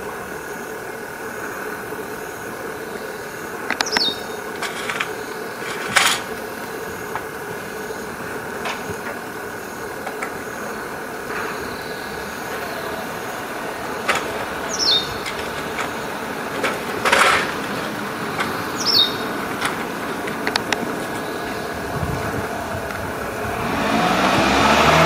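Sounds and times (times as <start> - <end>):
wagtail chirping: 0.0 - 23.7
steady mechanical hum: 0.0 - 25.0.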